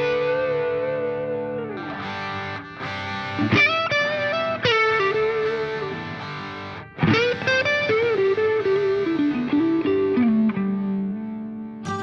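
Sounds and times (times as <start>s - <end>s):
distorted electric guitar melody: 0.0s - 12.0s.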